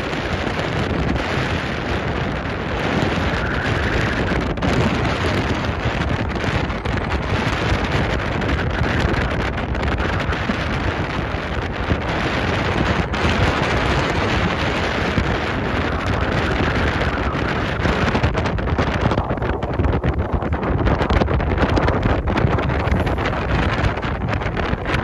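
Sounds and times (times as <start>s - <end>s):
choppy water hissing: 0.0s - 25.0s
wind buffeting microphone: 0.0s - 25.0s.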